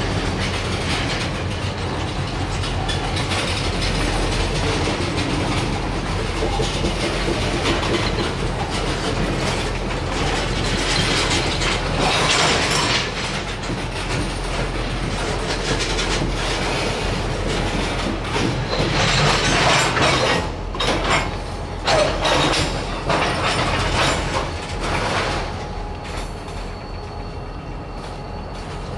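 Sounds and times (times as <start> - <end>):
freight cars rumbling over rails: 0.0 - 28.9
train wheel squeal: 0.0 - 28.9.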